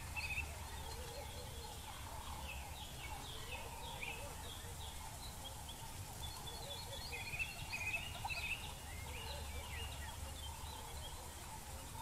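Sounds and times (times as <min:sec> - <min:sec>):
wild birds chirping and whistling: 0:00.0 - 0:12.0.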